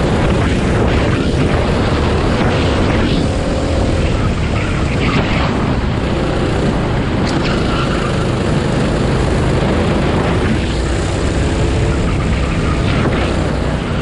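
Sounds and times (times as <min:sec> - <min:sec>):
kart engine running: 0:00.0 - 0:14.0.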